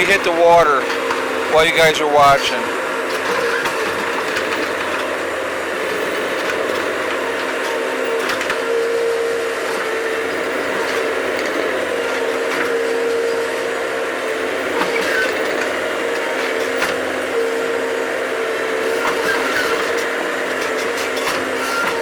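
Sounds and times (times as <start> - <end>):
digging machine running: 0.0 - 22.0
whining tone: 0.0 - 22.0.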